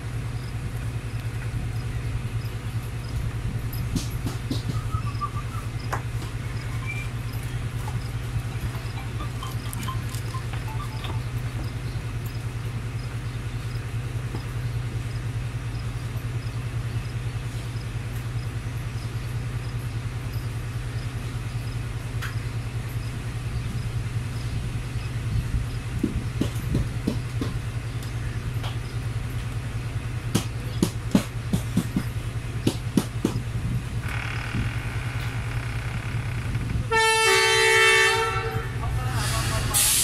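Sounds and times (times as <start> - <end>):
wheels clicking over rail joints: 0.0 - 23.8, 24.9 - 38.9
diesel locomotive engine drone: 0.0 - 40.0.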